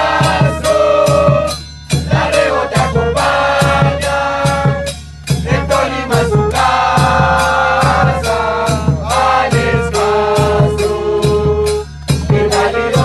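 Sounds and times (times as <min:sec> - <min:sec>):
drums: 0:00.0 - 0:13.0
group chanting: 0:00.0 - 0:13.0.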